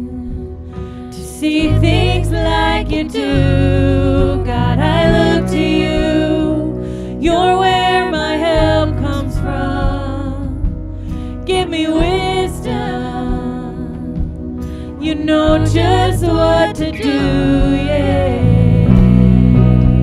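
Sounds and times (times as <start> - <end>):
women singing: 0.0 - 20.0
worship band playing: 0.0 - 20.0.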